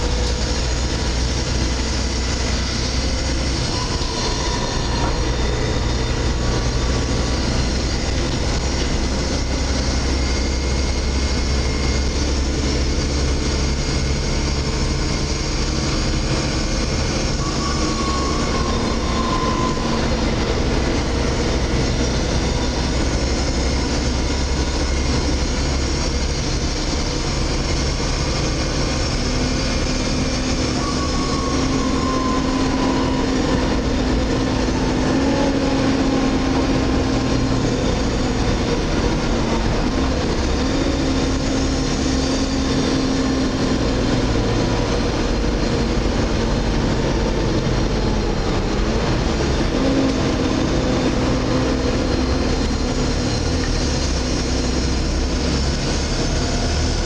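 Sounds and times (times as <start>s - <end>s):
bus engine and road rumble: 0.0s - 57.0s
whining tone falling in pitch: 0.0s - 57.0s.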